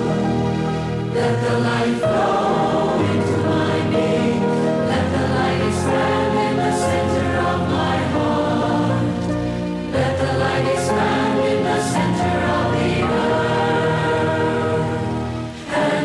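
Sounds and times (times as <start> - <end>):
choir singing: 0.0 - 16.0
musical accompaniment: 0.0 - 16.0.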